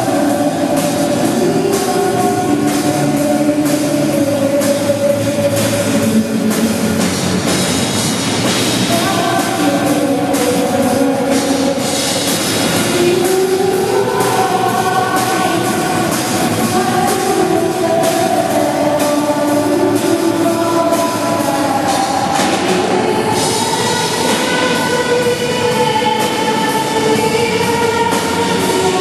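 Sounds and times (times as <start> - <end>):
drums hitting steadily: 0.0 - 29.0.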